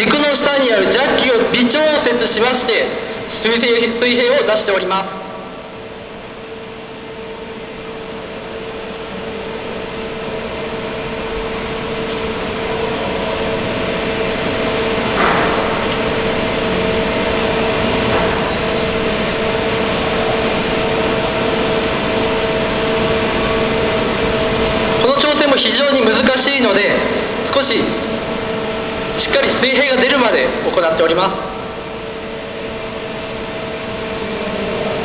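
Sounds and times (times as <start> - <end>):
machine hum with two tones: 0.0 - 35.0.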